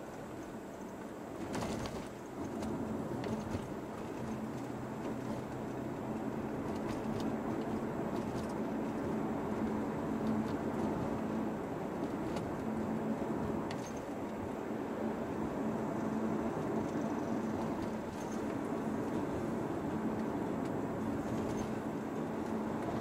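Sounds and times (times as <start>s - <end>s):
car cabin road noise: 0.0s - 23.0s.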